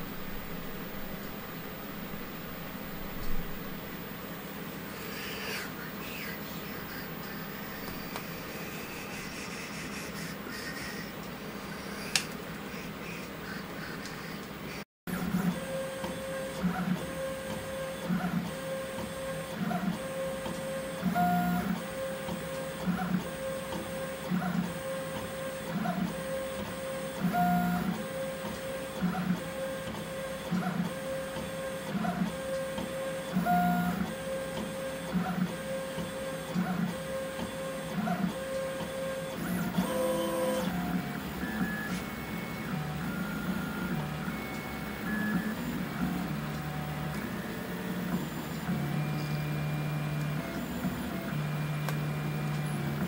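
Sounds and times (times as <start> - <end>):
cooling fan hum: 0.0 - 53.0.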